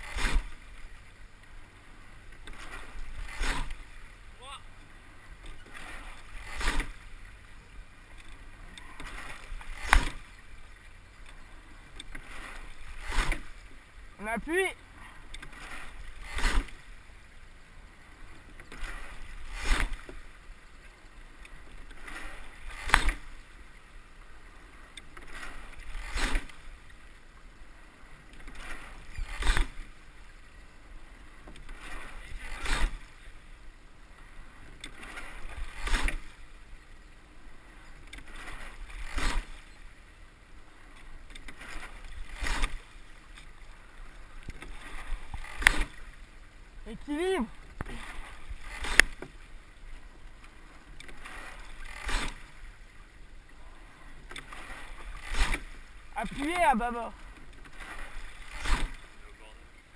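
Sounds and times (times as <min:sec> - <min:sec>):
oars clacking in oarlocks: 0:00.0 - 0:59.9
water rushing along hull: 0:00.0 - 0:59.9.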